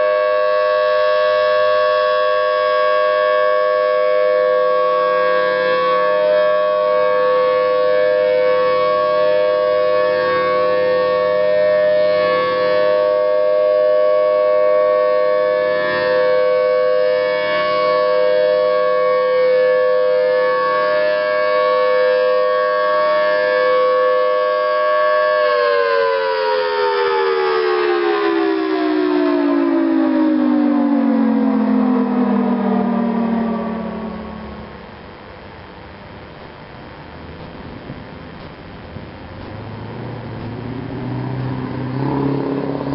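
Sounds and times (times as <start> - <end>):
tornado siren two-tone chord: 0.0 - 42.9.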